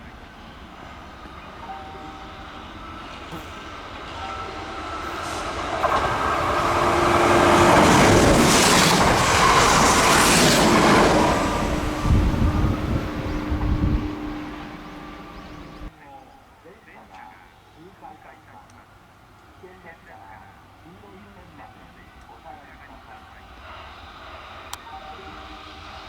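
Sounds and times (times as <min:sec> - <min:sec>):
electric train passing: 0:00.0 - 0:16.0, 0:17.6 - 0:26.0.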